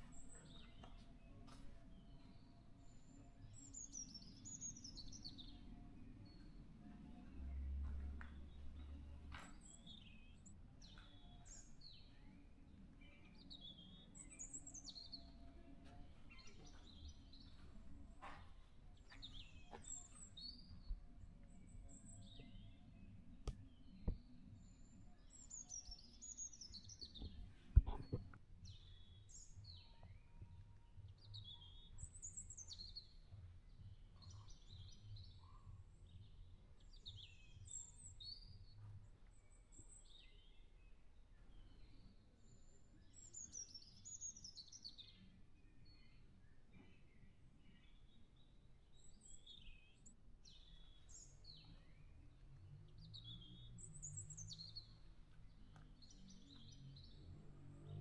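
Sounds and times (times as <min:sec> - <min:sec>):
birds chirping and warbling: 0:00.0 - 0:58.0.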